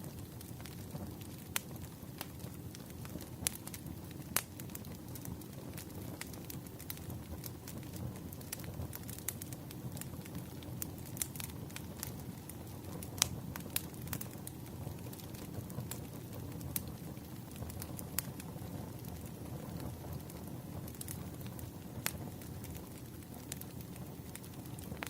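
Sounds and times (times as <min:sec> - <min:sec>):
fire crackles and pops: 0:00.0 - 0:25.0
low rumble of flames: 0:00.0 - 0:25.0.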